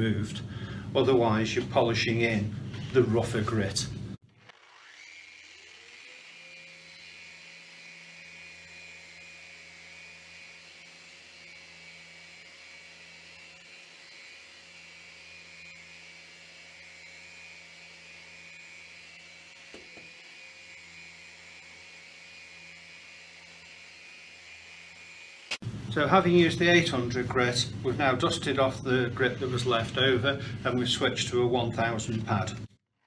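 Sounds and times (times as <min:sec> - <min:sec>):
orbital sander running: 0:03.6 - 0:32.0.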